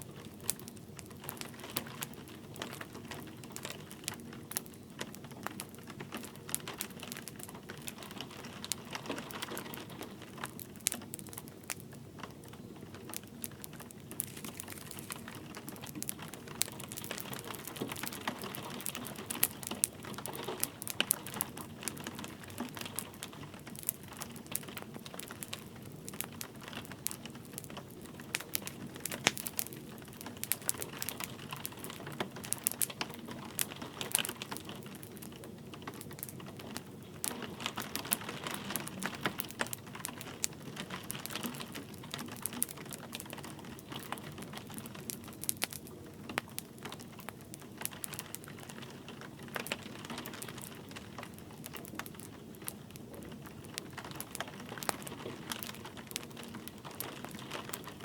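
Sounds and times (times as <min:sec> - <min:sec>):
light rain hissing: 0:00.0 - 0:58.0
wood fire crackling and popping: 0:00.0 - 0:58.0.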